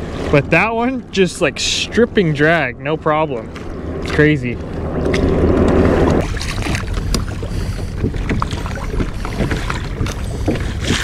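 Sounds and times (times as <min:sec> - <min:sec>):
water lapping against kayak hull: 0:00.0 - 0:11.0
wind buffeting microphone: 0:00.0 - 0:11.0.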